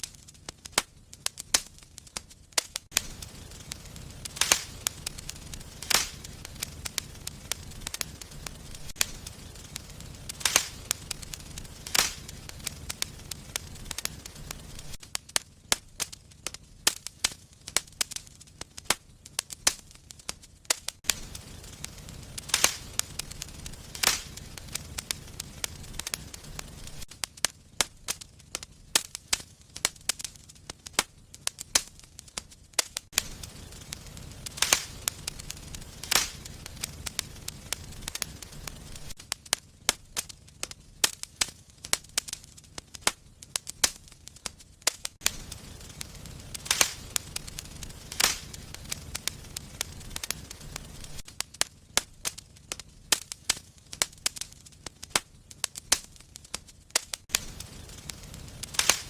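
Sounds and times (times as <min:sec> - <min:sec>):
sharp fire pops: 0:00.0 - 0:59.0
wood fire crackling: 0:00.0 - 0:59.0.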